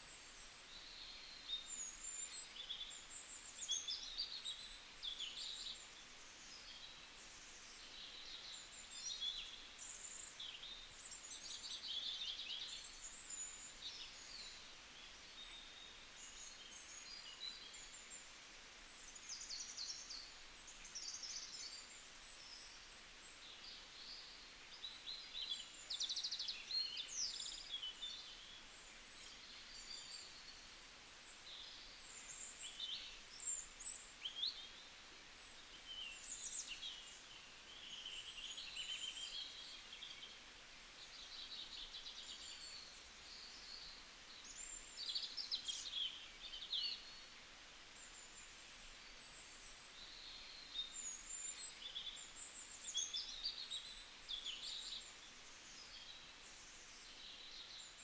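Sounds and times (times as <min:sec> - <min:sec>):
faint steady hiss: 0:00.0 - 0:58.0
songbirds chirping: 0:00.0 - 0:58.0.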